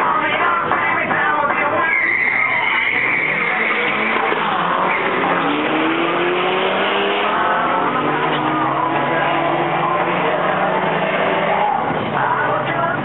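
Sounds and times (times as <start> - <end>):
cars accelerating: 0.0 - 13.0
music playing: 0.0 - 13.0.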